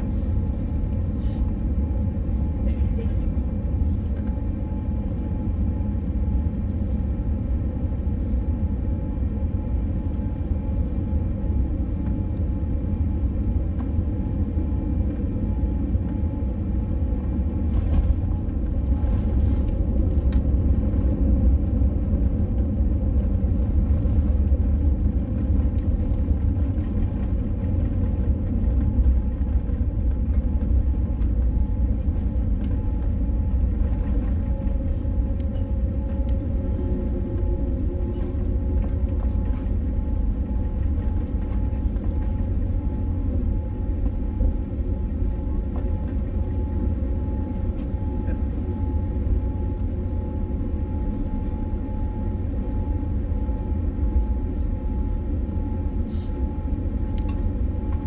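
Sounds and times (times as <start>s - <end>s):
airliner cabin rumble: 0.0s - 58.0s
faint steady whine: 0.0s - 58.0s.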